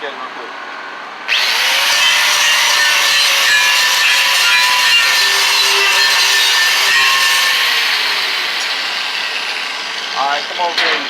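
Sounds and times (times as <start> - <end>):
angle grinder grinding metal: 1.3 - 10.6.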